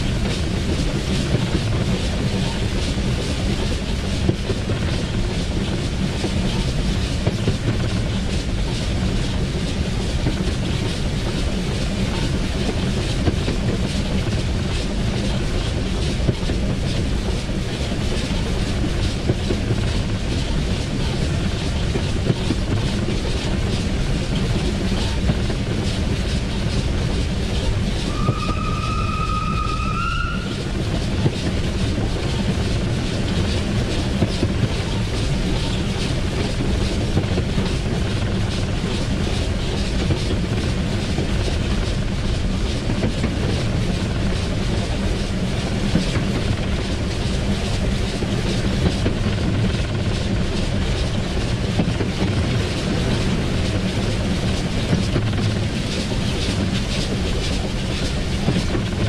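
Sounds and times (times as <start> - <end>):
locomotive rumble: 0.0 - 59.0.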